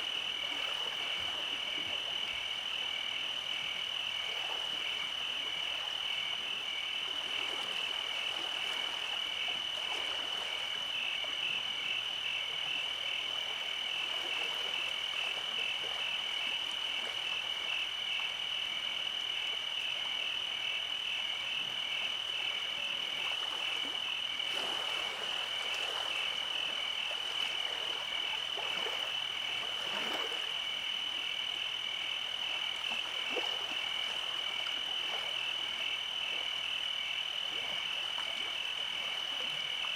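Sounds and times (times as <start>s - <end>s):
faint frog calls: 0.0s - 39.9s.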